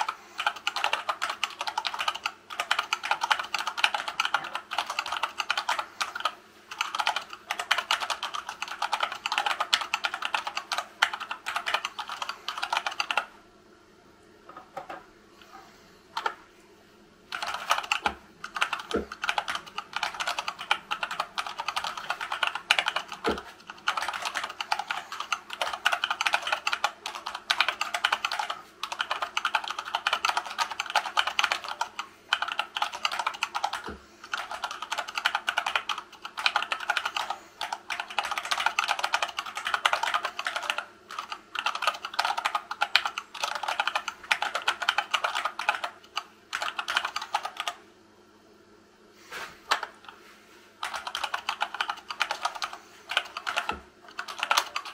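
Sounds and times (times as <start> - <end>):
fast keyboard typing: 0.0 - 13.3, 17.3 - 47.8, 50.8 - 54.9.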